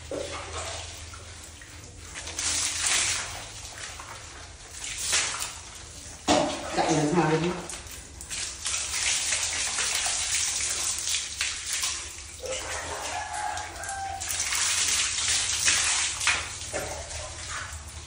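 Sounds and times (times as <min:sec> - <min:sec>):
water splashing onto tiled floor: 0:00.0 - 0:18.0.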